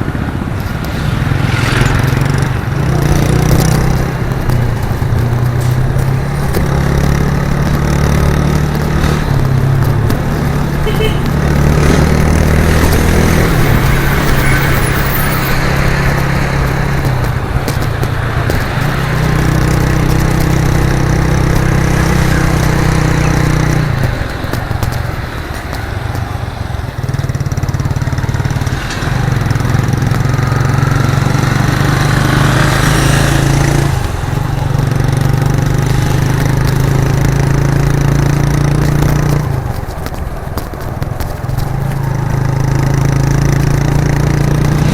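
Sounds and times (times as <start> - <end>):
motorcycle engine on the move: 0.0 - 44.9.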